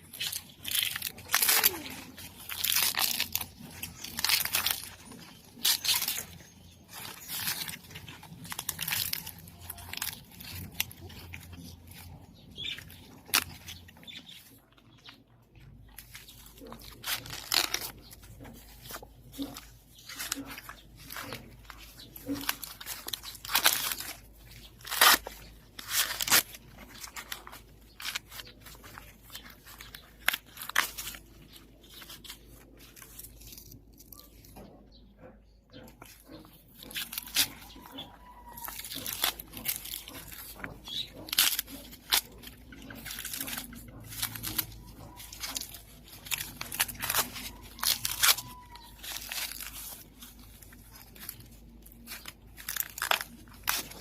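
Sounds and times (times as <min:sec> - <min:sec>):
corn husks tearing and rustling: 0:00.0 - 0:54.0.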